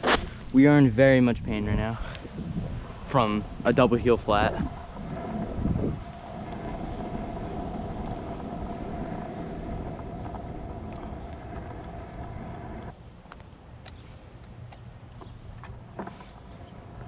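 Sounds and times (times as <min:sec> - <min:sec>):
scooter wheels rolling on asphalt: 0:01.8 - 0:17.0.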